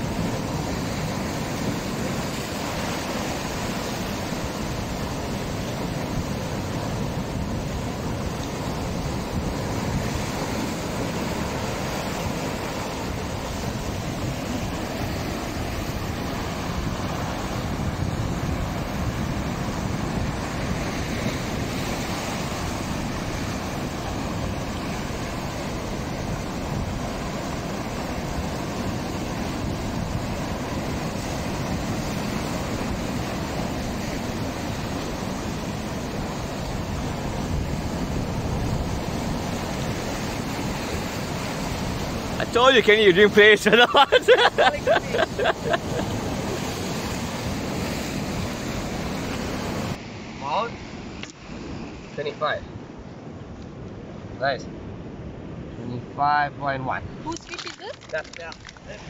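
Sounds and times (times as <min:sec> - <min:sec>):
surf breaking over rocks: 0:00.0 - 0:50.8, 0:57.2 - 0:59.0.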